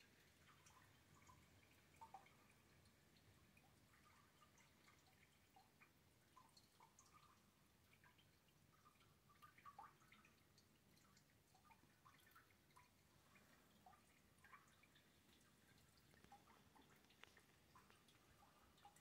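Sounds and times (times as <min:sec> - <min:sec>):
rainwater dripping: 0:00.0 - 0:19.0.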